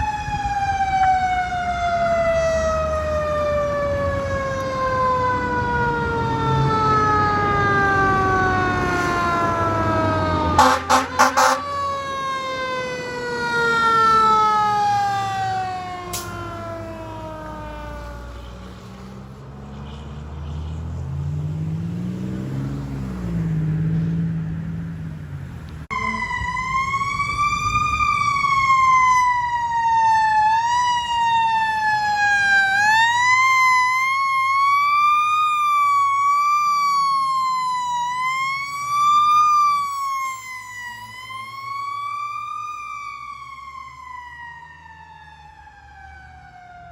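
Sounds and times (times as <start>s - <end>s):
mechanical siren winding down: 0.0s - 18.7s, 25.9s - 46.9s
wailing siren: 0.0s - 19.5s, 25.8s - 46.9s.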